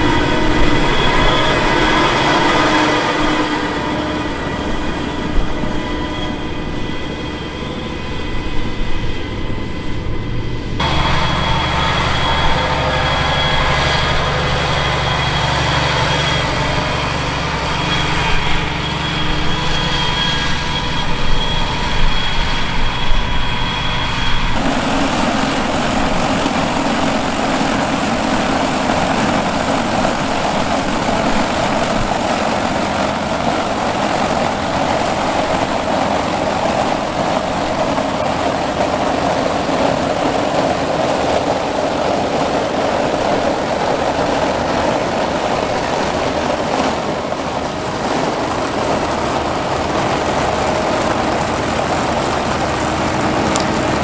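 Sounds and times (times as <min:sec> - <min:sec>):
harvester engines running: 0:00.0 - 0:54.0
thin high whine: 0:00.0 - 0:54.0.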